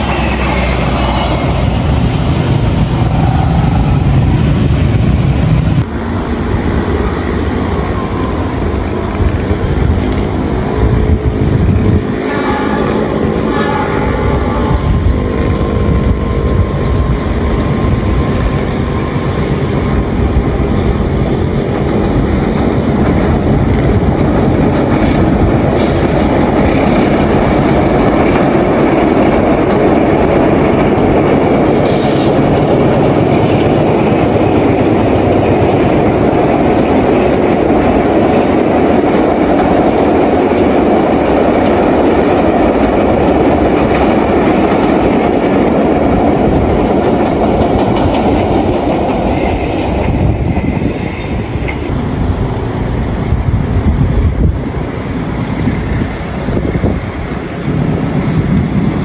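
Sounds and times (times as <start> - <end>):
rail joint clickety-clack: 0.0 - 59.0
train wheels rumbling: 0.0 - 59.0.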